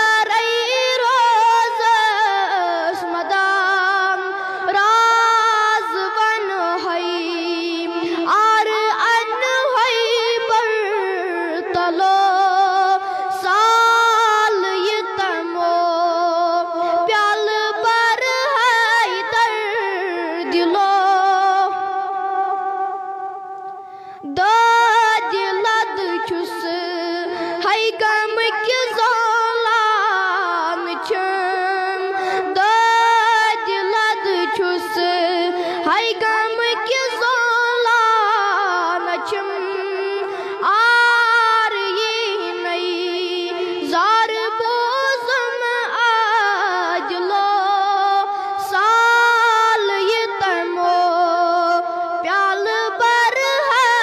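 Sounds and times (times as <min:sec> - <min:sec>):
boy singing into a microphone: 0:00.0 - 0:54.0.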